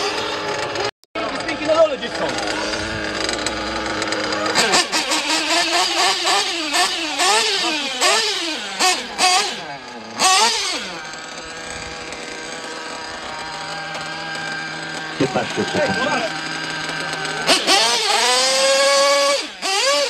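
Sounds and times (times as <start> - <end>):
small engine revving and idling: 0.0 - 20.0.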